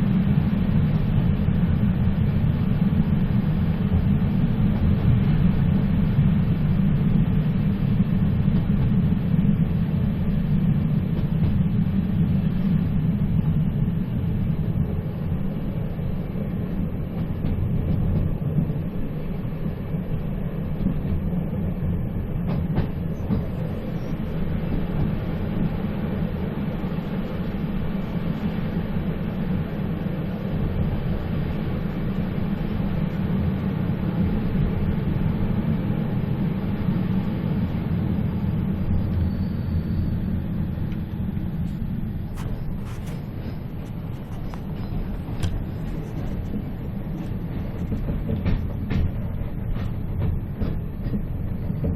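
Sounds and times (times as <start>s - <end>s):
train rumbling: 0.0s - 51.9s.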